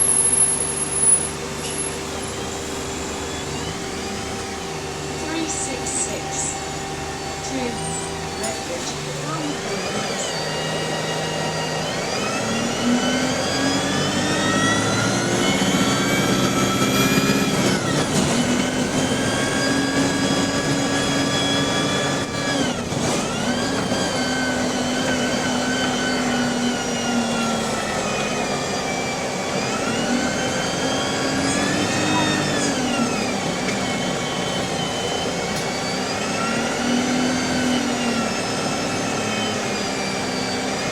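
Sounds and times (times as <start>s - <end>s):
bus engine and gearbox whining: 0.0s - 40.9s.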